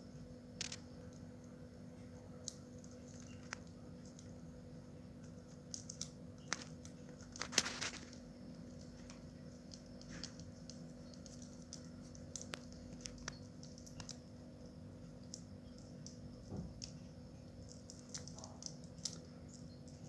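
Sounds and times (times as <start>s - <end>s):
low electrical hum: 0.0s - 20.0s
light clicks and taps: 2.0s - 4.4s, 5.2s - 20.0s.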